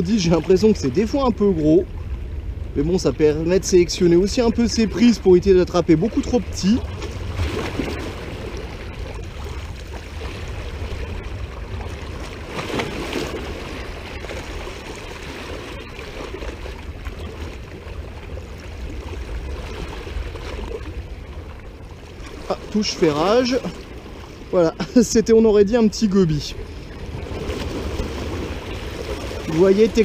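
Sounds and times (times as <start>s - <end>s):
seawater lapping against boulders: 0.0s - 30.0s
wind rumble on microphone: 0.0s - 30.0s.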